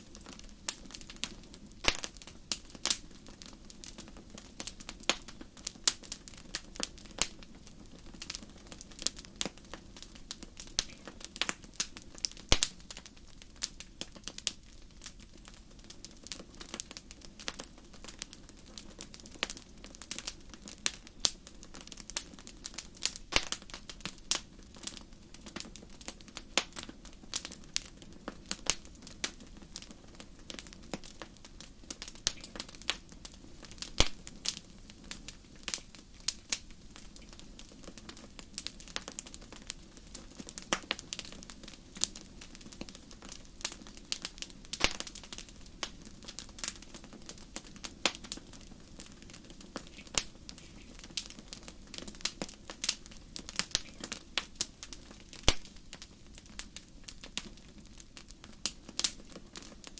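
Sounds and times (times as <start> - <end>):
hiss of burning: 0.0 - 59.9
wood fire crackling: 0.0 - 59.9.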